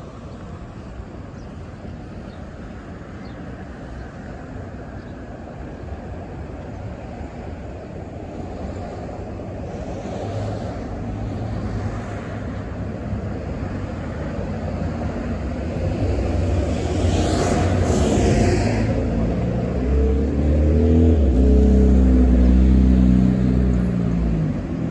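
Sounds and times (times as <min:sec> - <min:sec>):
road traffic: 0:00.0 - 0:24.9
suv engine rumble and tyre noise: 0:00.0 - 0:24.9.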